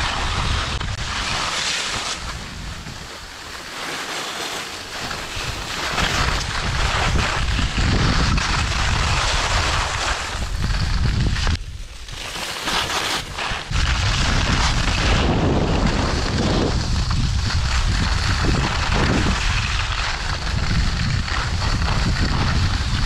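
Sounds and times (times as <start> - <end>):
wind buffeting microphone: 0.0 - 3.3, 5.2 - 12.0, 13.2 - 23.0
skis hissing on snow: 0.0 - 23.0.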